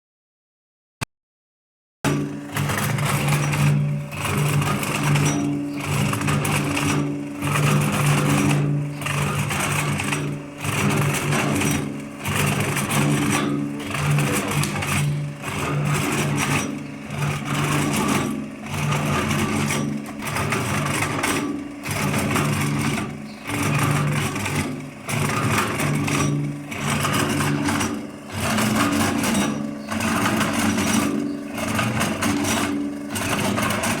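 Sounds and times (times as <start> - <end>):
machining tool cutting metal: 2.1 - 34.0
steady motor hum: 2.1 - 34.0.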